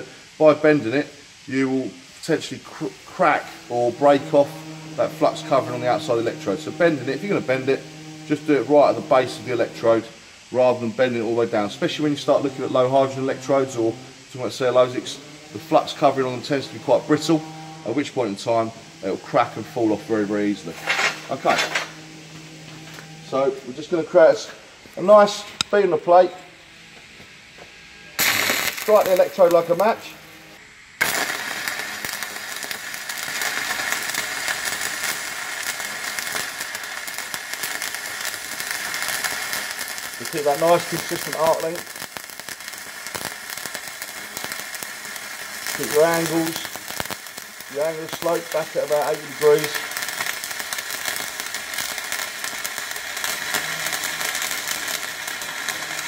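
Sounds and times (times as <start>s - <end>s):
welding arc crackling sizzle: 0.0s - 56.0s.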